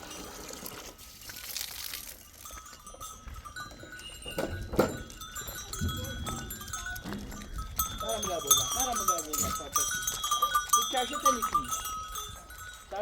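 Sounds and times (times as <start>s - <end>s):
goat bells clinking: 0.0s - 13.0s.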